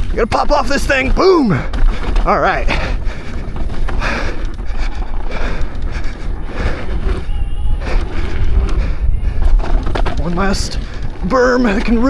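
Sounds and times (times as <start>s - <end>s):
electric unicycle clattering: 0.0s - 12.0s
wind buffeting microphone: 0.0s - 12.0s.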